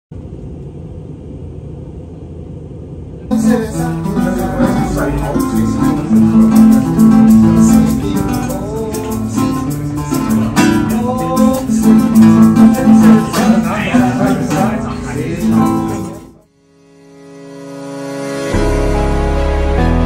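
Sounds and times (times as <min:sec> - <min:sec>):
acoustic guitar playing: 0:03.3 - 0:20.0.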